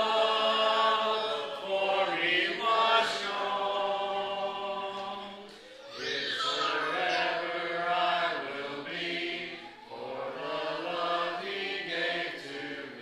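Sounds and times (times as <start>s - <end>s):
congregation singing a hymn: 0.0s - 13.0s.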